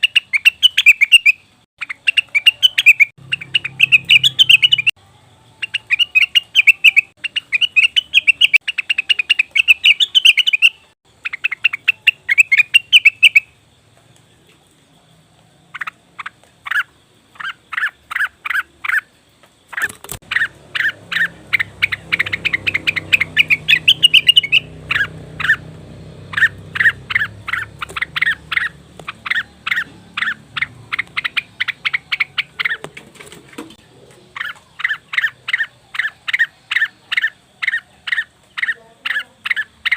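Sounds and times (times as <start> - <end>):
bird chattering and calling: 0.0 - 4.9, 5.6 - 13.6, 15.7 - 39.9.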